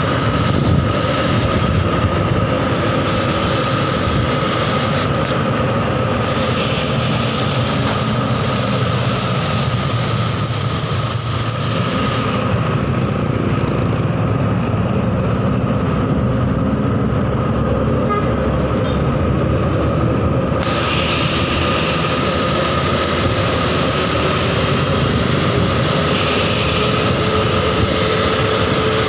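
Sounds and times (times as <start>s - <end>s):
bus engine rumble: 0.0s - 29.0s
road noise: 0.0s - 29.0s
steady high whine: 0.0s - 29.0s.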